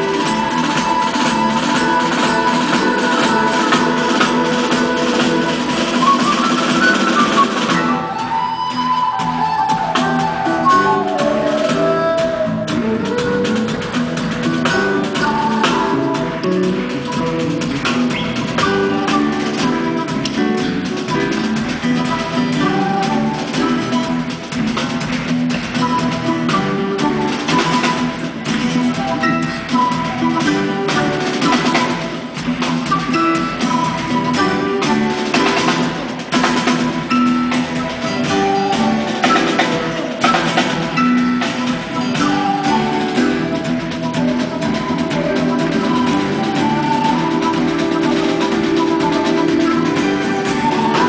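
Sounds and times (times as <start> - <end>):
drum kit steady beat: 0.0 - 8.4, 9.3 - 51.0
acoustic guitar: 0.0 - 51.0
held melody notes: 0.0 - 51.0.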